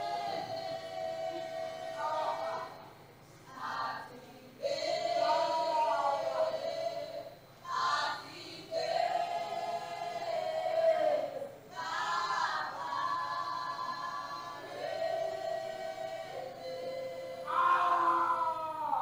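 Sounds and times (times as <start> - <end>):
voices singing unaccompanied: 0.0 - 19.0.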